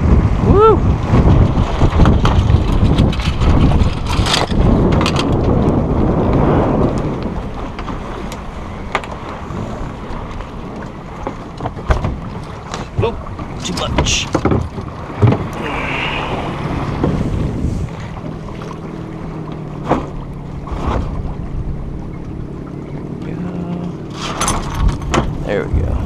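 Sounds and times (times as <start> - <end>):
water rushing along a hull: 0.0 - 26.0
wind buffeting microphone: 0.0 - 26.0.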